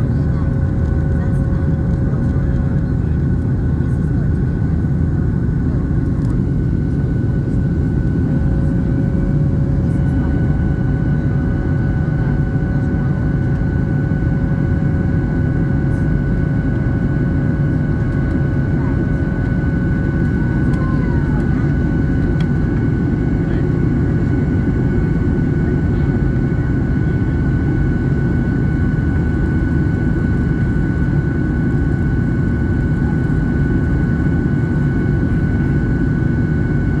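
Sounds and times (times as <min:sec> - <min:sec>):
high jet engine whine: 0:00.0 - 0:37.0
jet engine rumble: 0:00.0 - 0:37.0.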